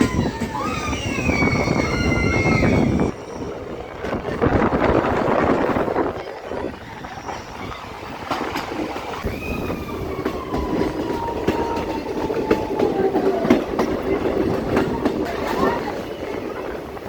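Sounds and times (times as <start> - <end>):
train wheels on track: 0.0 - 17.0.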